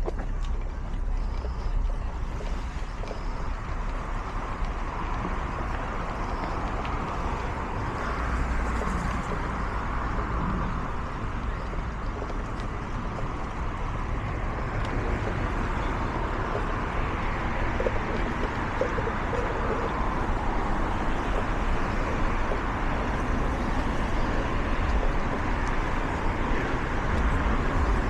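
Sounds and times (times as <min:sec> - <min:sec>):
urban street rumble and hiss: 0:00.0 - 0:28.0.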